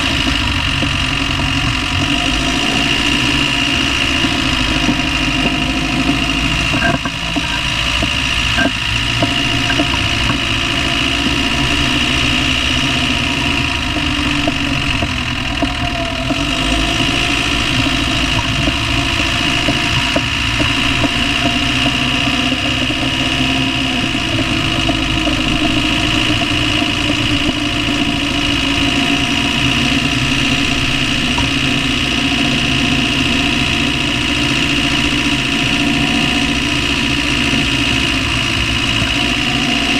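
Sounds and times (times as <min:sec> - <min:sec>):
diesel engine idling: 0:00.0 - 0:39.9
engine knocking: 0:00.0 - 0:39.9.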